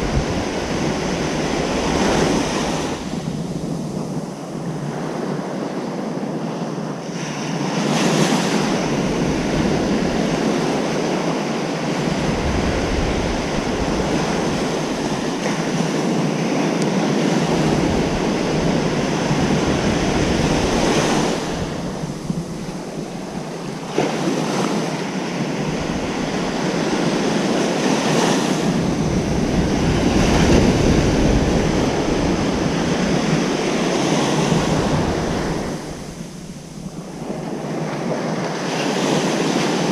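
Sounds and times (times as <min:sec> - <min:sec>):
ocean surf breaking: 0:00.0 - 0:05.9, 0:07.1 - 0:39.9.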